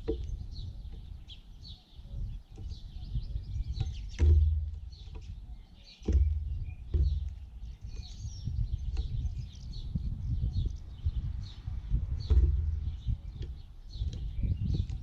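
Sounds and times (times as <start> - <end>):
birds chirping: 0.0 - 15.0
low thumps: 2.5 - 15.0.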